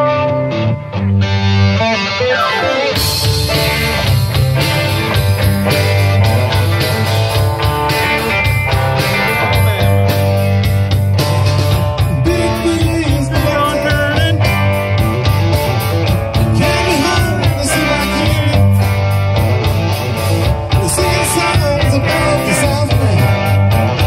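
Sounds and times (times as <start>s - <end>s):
electric guitar sliding note: 0.0s - 20.5s
rock band playing: 0.0s - 24.0s
drums and cymbals: 3.0s - 24.0s.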